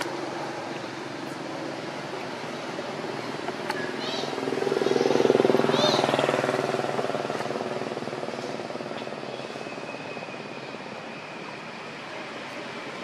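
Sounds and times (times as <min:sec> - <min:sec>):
engine passing by: 0:00.0 - 0:13.0.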